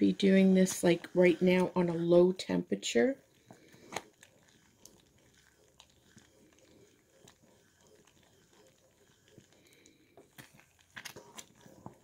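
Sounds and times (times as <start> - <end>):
boiling caramel popping: 0.0 - 12.0
wooden spoon stirring: 0.0 - 12.0.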